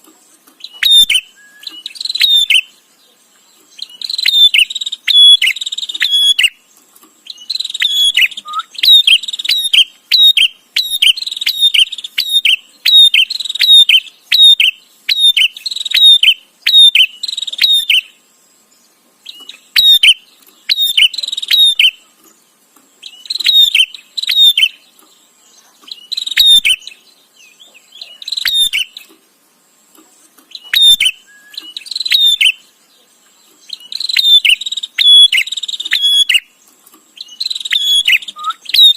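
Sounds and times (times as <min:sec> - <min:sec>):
bird chirping rapidly: 0:00.6 - 0:29.2, 0:30.4 - 0:38.9.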